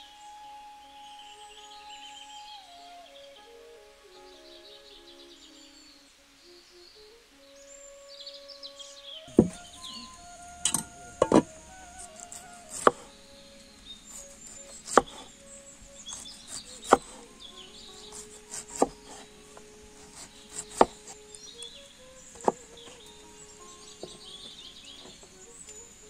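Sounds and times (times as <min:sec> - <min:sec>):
soft background music: 0:00.0 - 0:26.0
birds chirping: 0:04.1 - 0:26.0.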